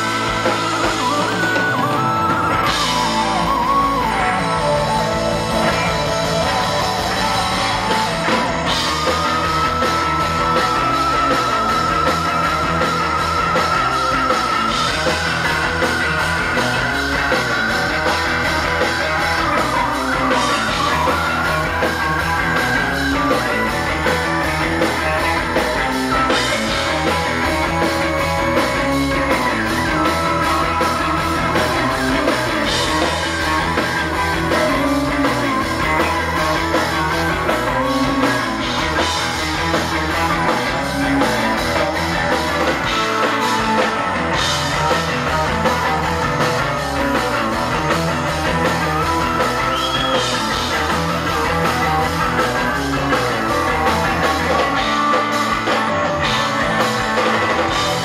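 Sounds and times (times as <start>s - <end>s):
electric guitar long high notes: 0.0s - 58.0s
rock band playing: 0.0s - 58.0s.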